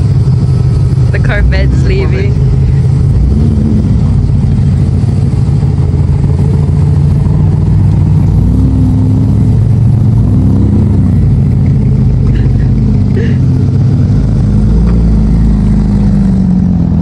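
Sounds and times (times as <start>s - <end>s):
car engine driving slowly past: 0.0s - 17.0s.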